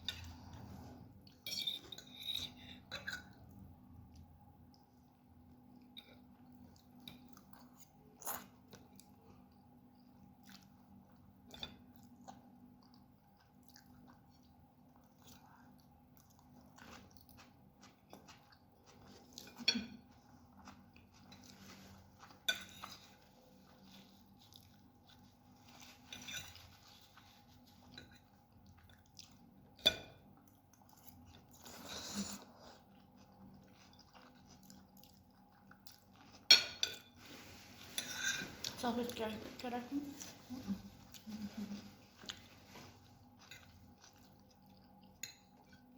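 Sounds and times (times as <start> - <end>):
person chewing noodles: 2.5 - 36.5, 42.0 - 45.9.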